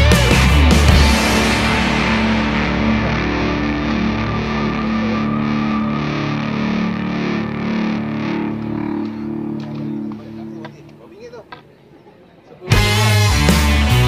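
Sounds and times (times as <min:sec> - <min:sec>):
rock music with distorted guitar: 0:00.0 - 0:10.6, 0:12.7 - 0:14.0.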